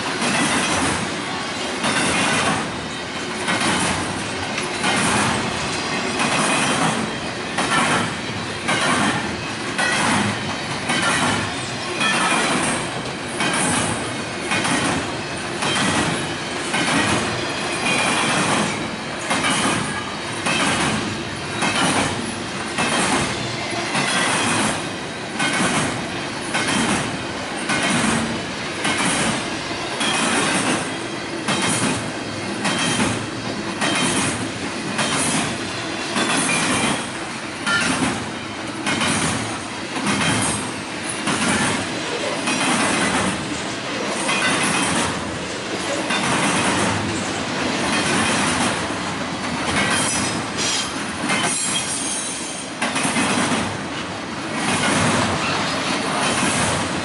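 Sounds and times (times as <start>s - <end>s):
train wheels clacking over rail joints: 0.0s - 57.0s.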